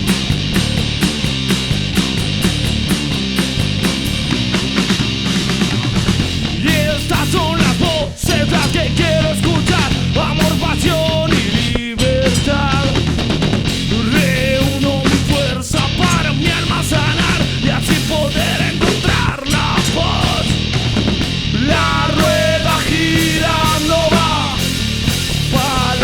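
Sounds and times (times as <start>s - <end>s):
bass: 0.0s - 26.0s
distorted guitars: 0.0s - 26.0s
drum kit: 0.0s - 26.0s.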